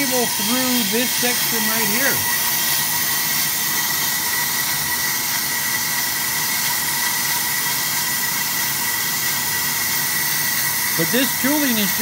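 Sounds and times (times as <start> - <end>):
brake lathe cutting rotor: 0.0 - 12.0
thin high whine: 0.0 - 12.0.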